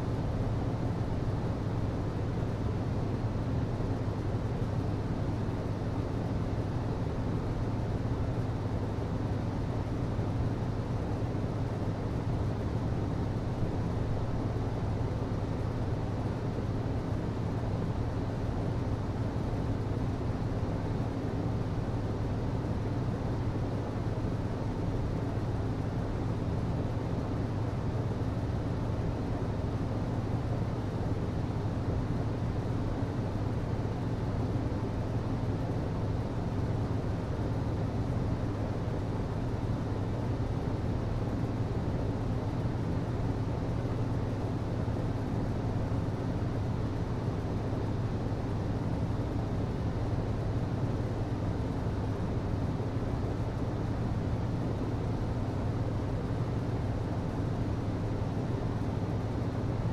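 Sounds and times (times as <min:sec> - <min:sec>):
ventilation system hum: 0:00.0 - 0:59.9.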